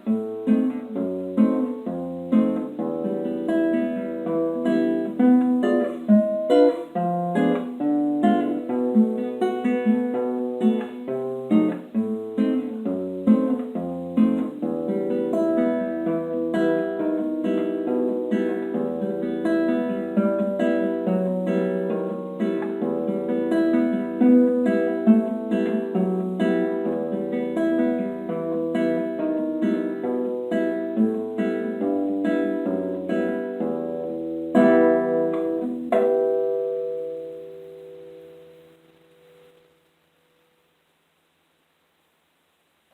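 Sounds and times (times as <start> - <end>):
fingerpicked classical guitar: 0.0 - 42.9.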